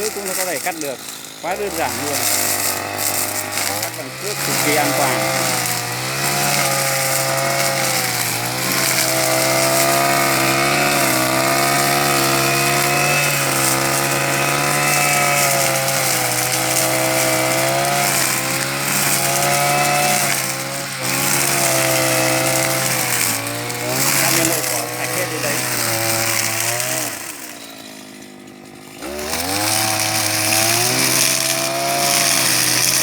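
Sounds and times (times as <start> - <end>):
brushcutter cutting grass: 0.0 - 33.0.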